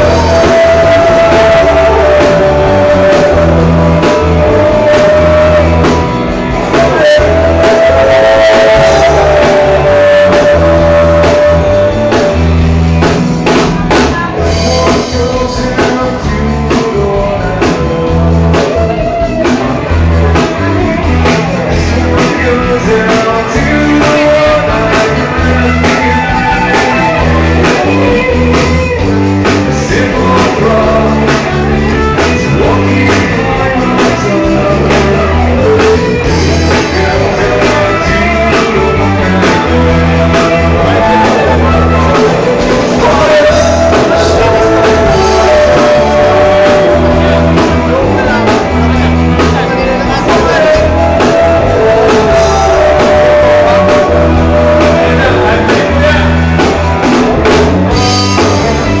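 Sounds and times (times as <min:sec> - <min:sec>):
men singing: 0:00.0 - 0:12.6, 0:14.2 - 0:20.1, 0:21.6 - 0:57.3
drum kit beat: 0:00.0 - 0:59.0
live band playing: 0:00.0 - 0:59.0.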